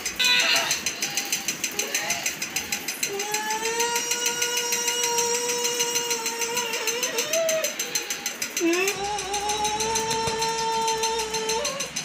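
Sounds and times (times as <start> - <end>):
fast steady clicking: 0.0 - 12.0
voice holding long high tone: 0.2 - 12.0.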